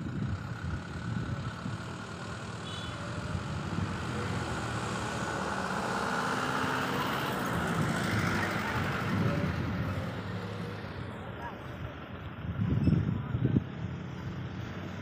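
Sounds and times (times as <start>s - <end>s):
engine and traffic rumble: 0.0s - 15.0s.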